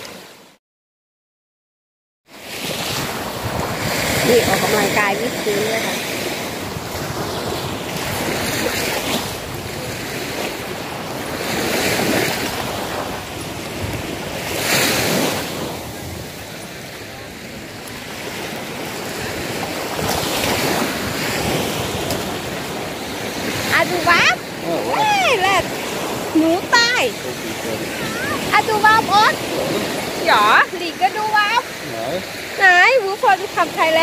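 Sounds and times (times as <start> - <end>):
small waves washing on sand: 2.3 - 34.0
wind buffeting microphone: 2.8 - 32.1.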